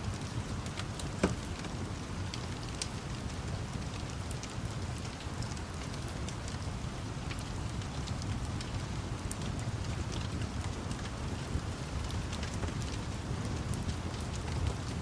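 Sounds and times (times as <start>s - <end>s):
rain falling: 0.0s - 15.0s
wood fire crackling and popping: 0.1s - 15.0s.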